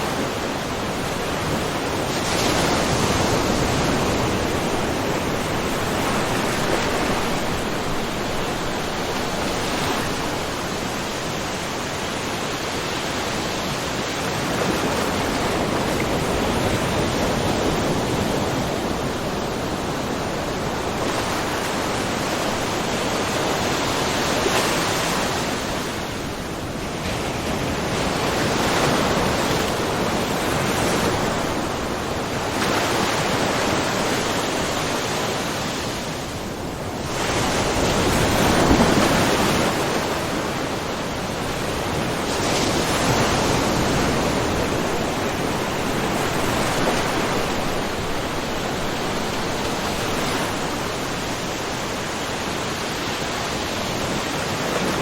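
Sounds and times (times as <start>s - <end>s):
small waves splashing: 0.0s - 55.0s.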